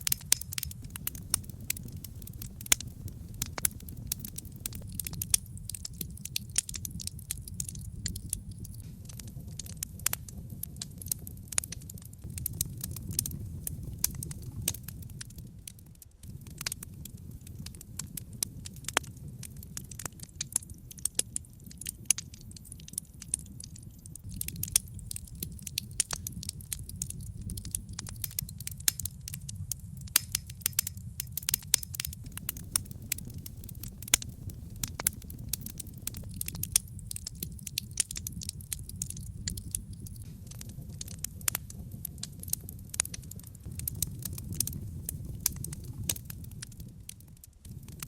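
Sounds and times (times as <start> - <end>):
low rumble of flames: 0.0 - 48.0
wood fire crackling and popping: 0.0 - 48.0.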